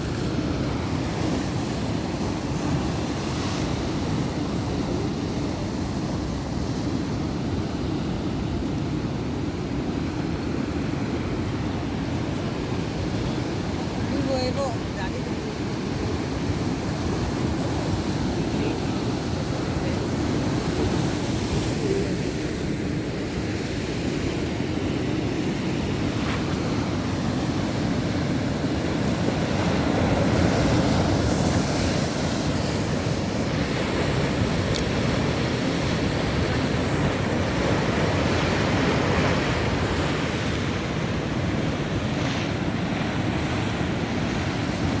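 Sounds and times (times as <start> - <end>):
heavy surf breaking: 0.0 - 45.0.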